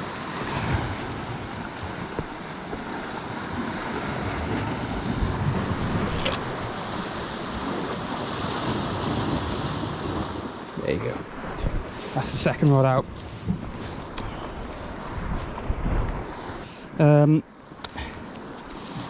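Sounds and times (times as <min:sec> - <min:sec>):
wind on microphone: 0:00.0 - 0:16.6
sea washing on shore: 0:00.0 - 0:19.0.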